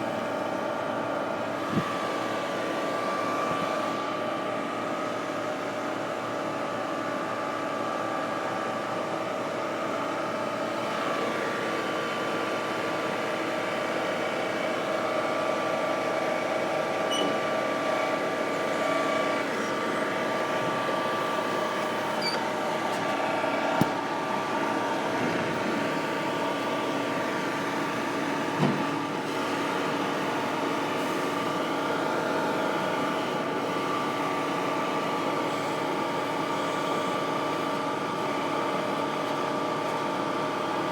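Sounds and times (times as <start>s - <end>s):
concrete pump droning hum: 0.0s - 40.9s.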